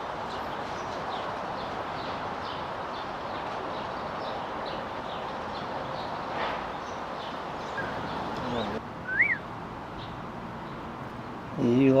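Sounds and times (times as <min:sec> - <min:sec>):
bird chirping: 0:00.3 - 0:11.8.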